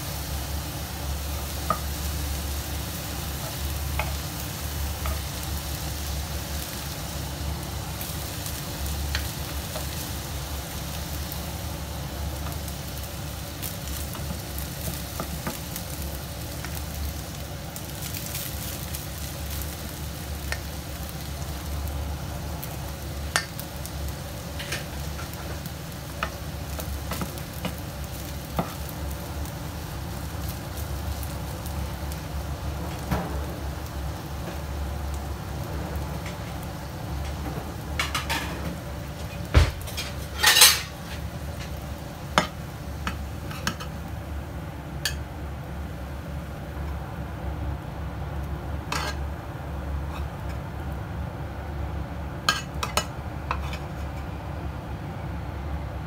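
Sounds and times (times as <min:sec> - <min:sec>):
rice and chicken sizzling: 0:00.0 - 0:55.0.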